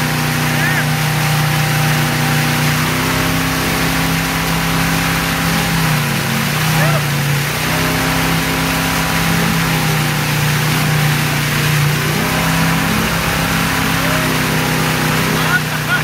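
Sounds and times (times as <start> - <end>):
boat engine drone: 0.0 - 16.0
hiss of churning wake: 0.0 - 16.0.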